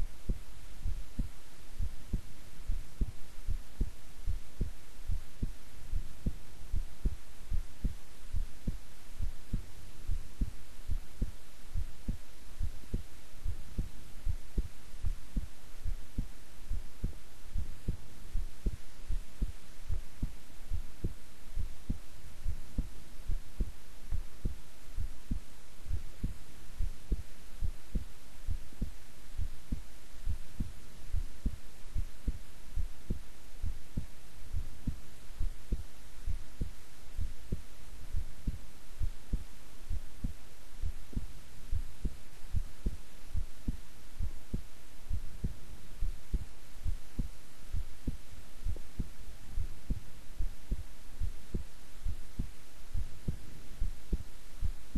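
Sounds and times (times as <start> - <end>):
faint steady hum: 0.0 - 54.9
heartbeat: 0.0 - 54.9.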